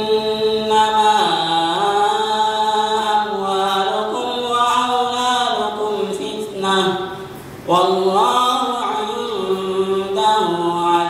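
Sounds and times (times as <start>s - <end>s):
person chanting a recitation: 0.0s - 11.0s.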